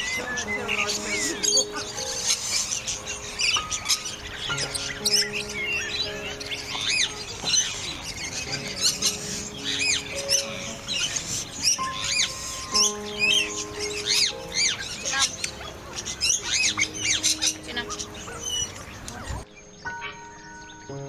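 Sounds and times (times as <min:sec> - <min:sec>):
background music of held notes: 0:00.0 - 0:21.0.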